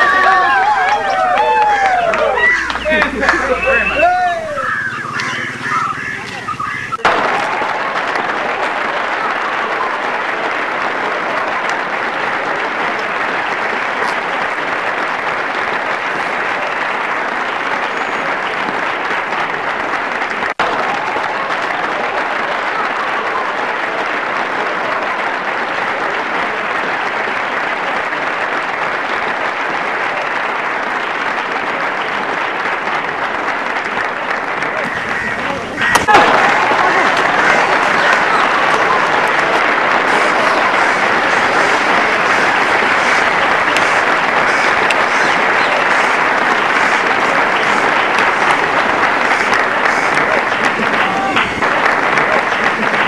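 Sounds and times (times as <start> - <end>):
dense clapping noise: 0.0 - 53.0.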